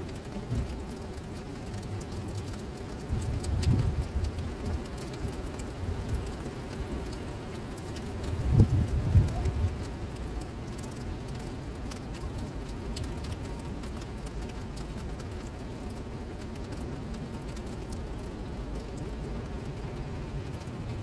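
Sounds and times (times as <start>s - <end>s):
rain falling into standing water: 0.0s - 21.0s.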